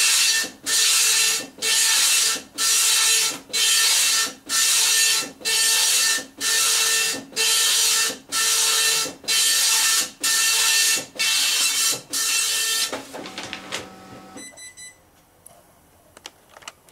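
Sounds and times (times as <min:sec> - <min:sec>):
dot matrix printer printing: 0:00.0 - 0:14.4.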